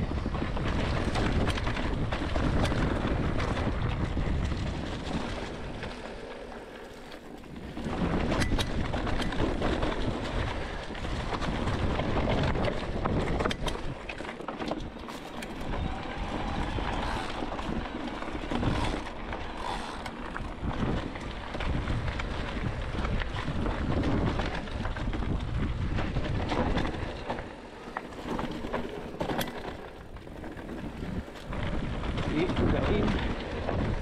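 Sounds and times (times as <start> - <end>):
bike clicks and rattles: 0.0 - 34.0
tyres rolling over dirt and stones: 0.0 - 34.0
wind buffeting microphone: 0.0 - 34.0.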